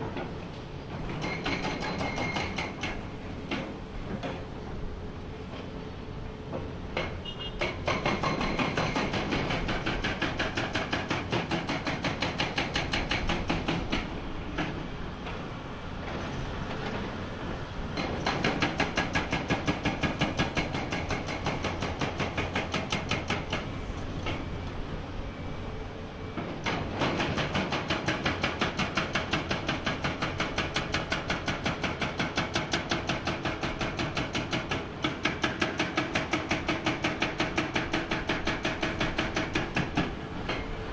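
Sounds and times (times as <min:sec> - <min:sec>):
hydraulic rock breaker hammering rock: 0:00.0 - 0:04.5, 0:07.0 - 0:15.4, 0:18.0 - 0:24.4, 0:26.4 - 0:40.7.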